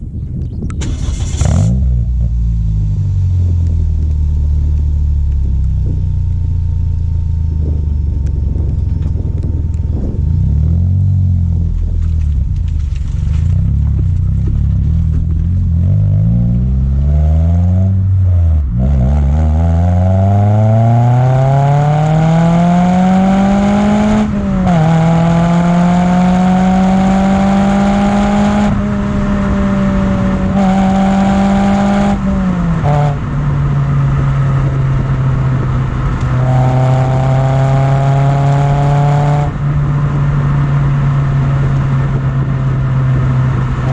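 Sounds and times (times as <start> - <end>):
car engine revving: 0.8 - 43.9.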